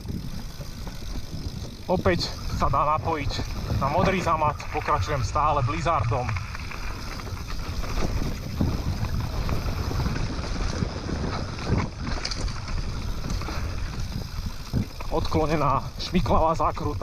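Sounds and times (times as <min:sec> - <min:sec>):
bike knocks and rattles: 0:00.0 - 0:17.0
bike tyre rumble: 0:00.0 - 0:17.0
wind buffeting microphone: 0:00.0 - 0:17.0.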